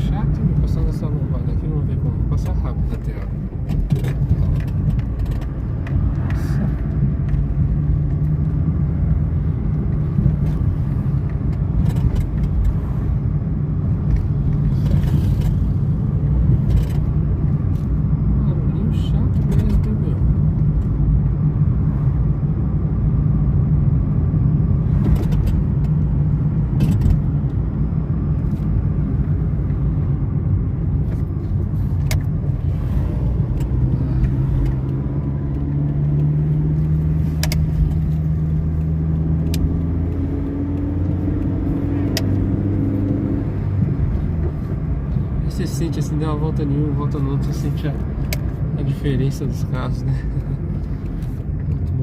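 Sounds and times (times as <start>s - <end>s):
car engine hum: 0.0s - 52.0s
road noise: 0.0s - 52.0s.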